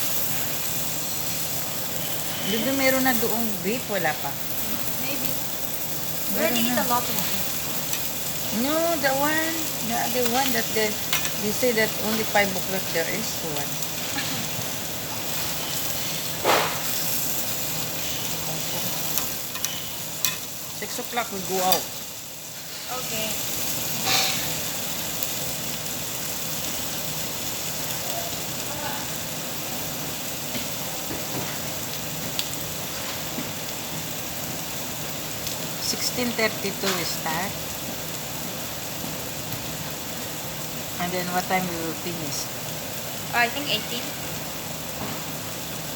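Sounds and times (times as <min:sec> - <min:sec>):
meat sizzling on a grill: 0:00.0 - 0:45.9.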